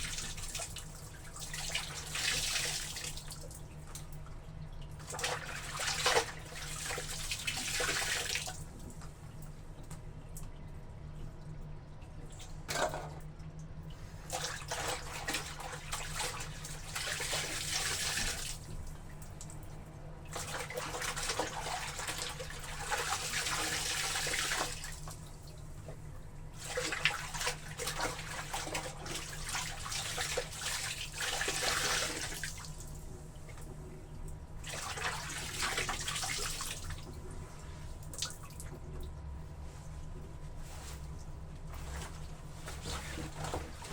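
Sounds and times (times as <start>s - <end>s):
water sloshing in a tub: 0.0s - 43.9s.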